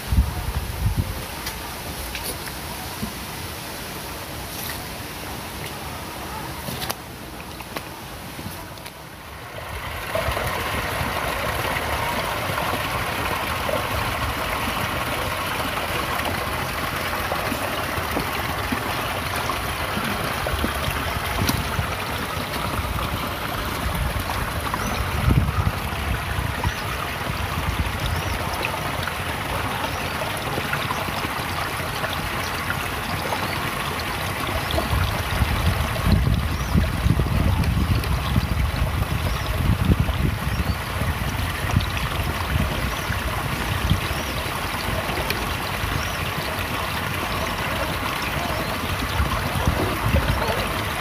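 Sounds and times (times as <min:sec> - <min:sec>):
creek water running over rocks: 0:00.0 - 0:51.0.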